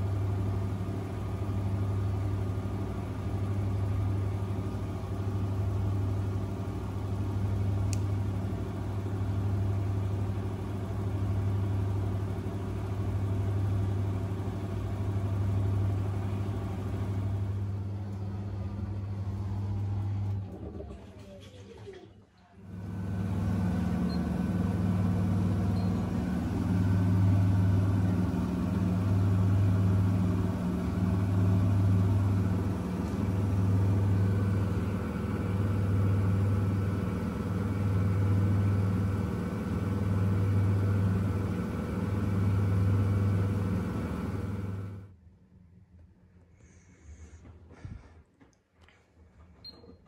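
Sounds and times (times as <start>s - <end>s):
washing machine humming: 0.0s - 45.2s.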